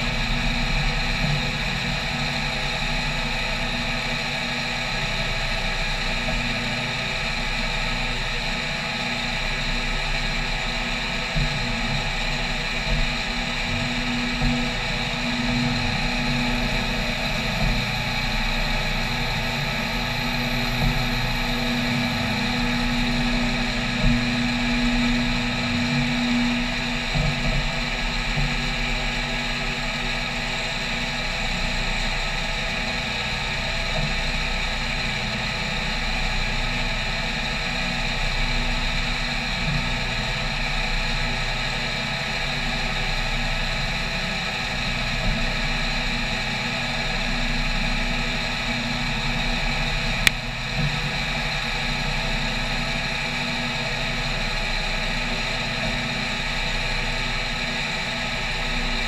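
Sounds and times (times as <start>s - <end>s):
milling machine cutting metal whine: 0.0s - 59.0s.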